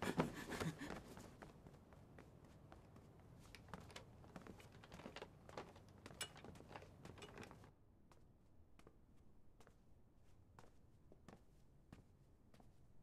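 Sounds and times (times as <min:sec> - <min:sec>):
footsteps on stone paving: 0:00.1 - 0:12.8.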